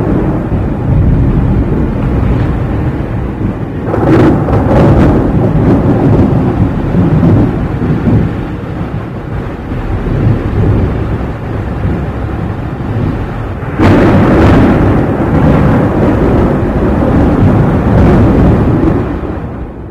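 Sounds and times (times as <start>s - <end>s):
loud thunderclap: 0.0s - 19.9s
thunder rumbling: 0.0s - 19.9s.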